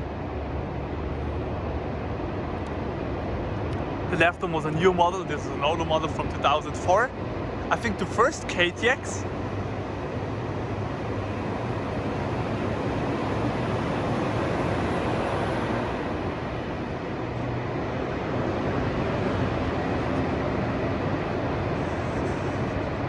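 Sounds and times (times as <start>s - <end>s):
high-speed train rushing on rails: 0.0s - 23.0s.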